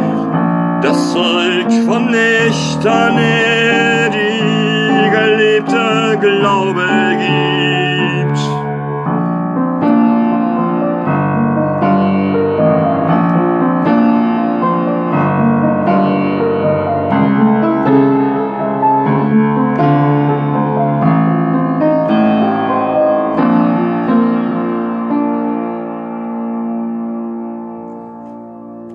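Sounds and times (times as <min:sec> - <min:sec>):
piano chords: 0:00.0 - 0:28.9.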